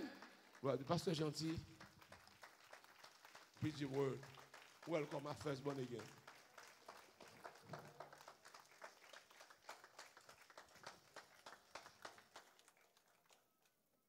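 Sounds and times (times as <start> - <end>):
faint scattered applause: 0.0 - 13.8.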